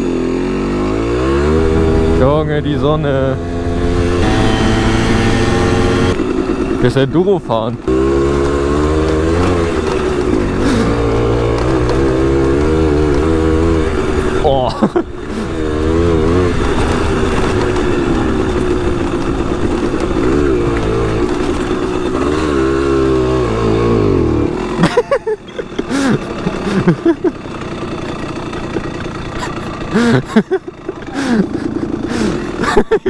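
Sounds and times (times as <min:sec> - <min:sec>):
two-stroke engine revving: 0:00.0 - 0:33.0.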